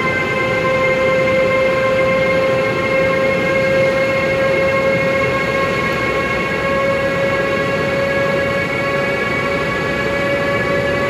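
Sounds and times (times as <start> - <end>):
electric locomotive motors whining: 0.0 - 11.0
train rumbling: 0.0 - 11.0.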